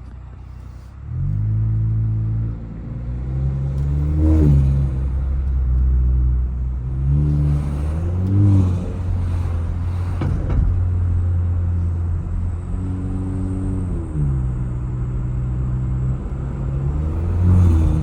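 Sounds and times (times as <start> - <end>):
car engine revving: 0.5 - 18.0.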